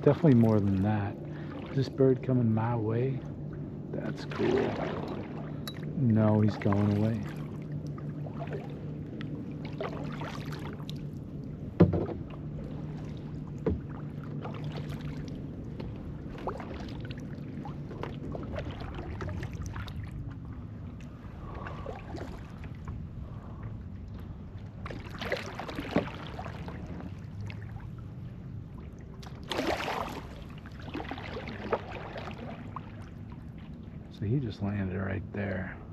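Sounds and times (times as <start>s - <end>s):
paddle splashes and drips: 0.0s - 34.2s.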